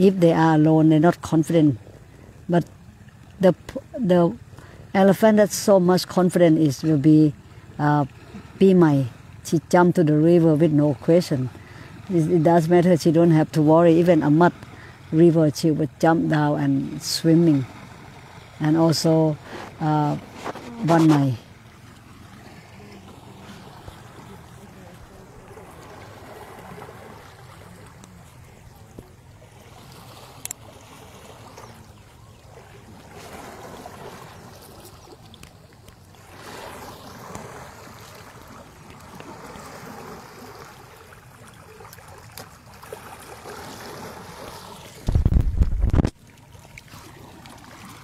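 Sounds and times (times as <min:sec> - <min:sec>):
river water flowing and splashing: 0:00.0 - 0:48.0.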